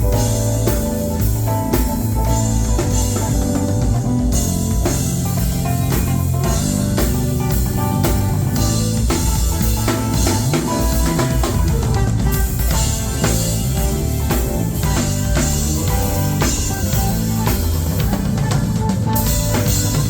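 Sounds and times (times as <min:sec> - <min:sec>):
band playing: 0:00.0 - 0:20.0.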